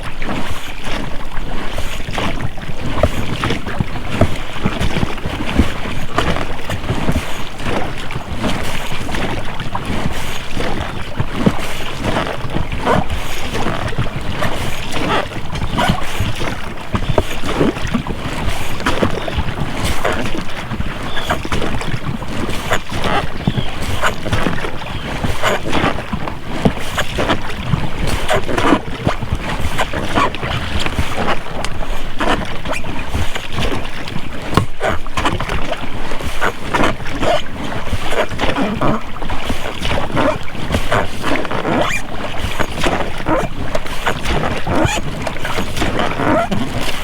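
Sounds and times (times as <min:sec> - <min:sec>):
oars splashing in water: 0:00.0 - 0:47.0
wind on microphone: 0:00.0 - 0:47.0
rowlocks knocking and creaking: 0:02.1 - 0:33.8, 0:34.4 - 0:47.0.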